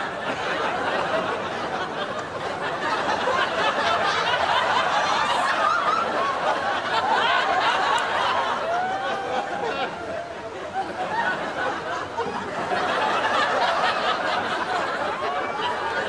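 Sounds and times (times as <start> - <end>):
audience laughing: 0.0 - 16.0.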